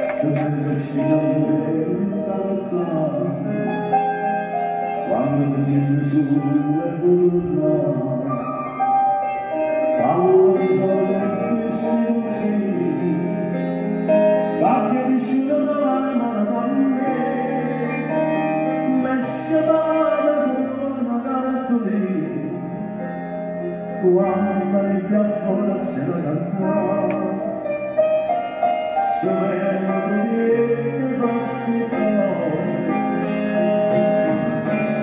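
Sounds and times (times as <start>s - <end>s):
man singing: 0.0s - 28.0s, 28.9s - 35.0s
piano accompaniment: 0.0s - 35.0s.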